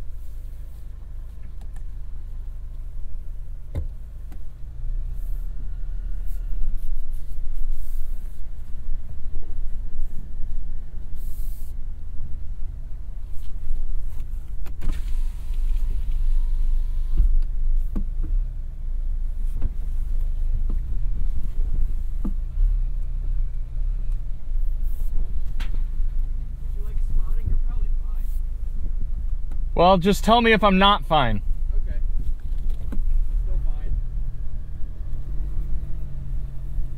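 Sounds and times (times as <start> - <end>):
truck engine rumble: 0.0 - 36.9.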